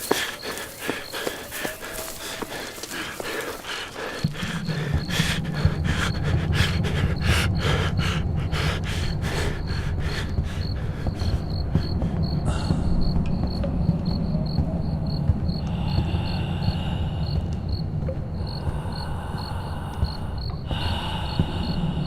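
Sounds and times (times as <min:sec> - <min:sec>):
person panting: 0:00.0 - 0:13.2, 0:15.5 - 0:17.8, 0:18.4 - 0:22.0
crickets chirping: 0:00.0 - 0:22.0.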